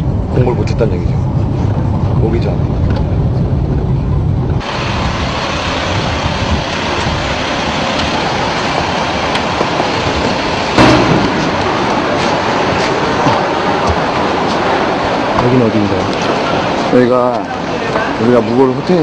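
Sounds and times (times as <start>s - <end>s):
road rumble inside van: 0.0s - 15.2s
city street traffic: 0.0s - 19.0s
rush of noise: 0.0s - 19.0s.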